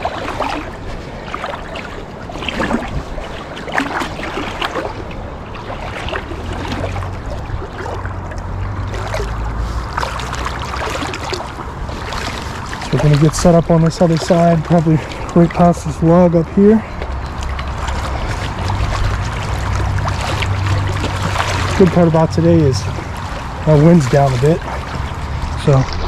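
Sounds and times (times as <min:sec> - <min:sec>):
stream rushing: 0:00.0 - 0:26.0
water splashing around legs: 0:00.0 - 0:26.0.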